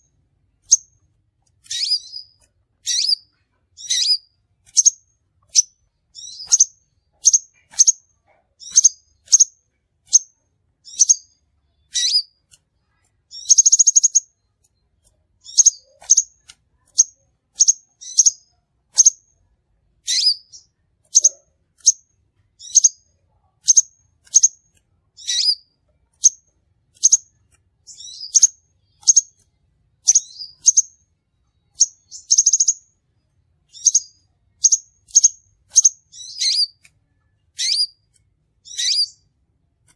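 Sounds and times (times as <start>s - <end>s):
bird chirping: 0.0s - 19.4s, 20.0s - 39.9s
rapid bird trill: 0.6s - 1.0s, 1.6s - 12.4s, 13.3s - 14.5s, 15.4s - 19.3s, 20.0s - 24.6s, 25.2s - 31.0s, 31.7s - 32.9s, 33.7s - 36.8s, 37.5s - 39.3s.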